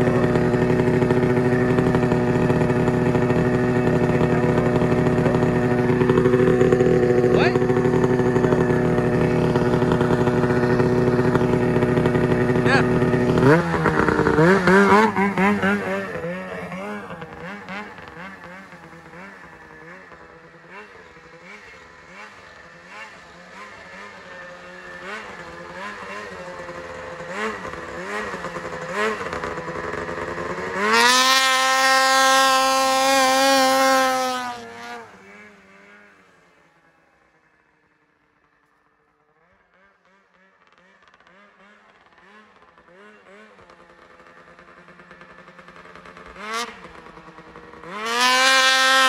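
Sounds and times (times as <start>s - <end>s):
snowmobile engine revving: 0.0s - 36.4s, 39.6s - 49.0s.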